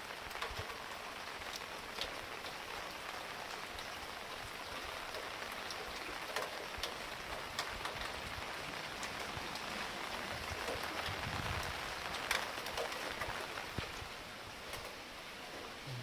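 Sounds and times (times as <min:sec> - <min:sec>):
heavy rain falling: 0:00.0 - 0:16.0
raindrops ticking on a surface: 0:00.0 - 0:16.0.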